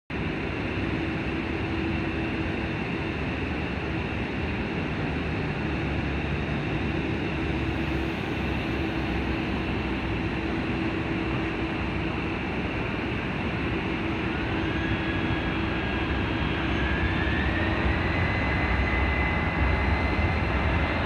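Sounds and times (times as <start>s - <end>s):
jet engines running up: 0.1s - 21.0s.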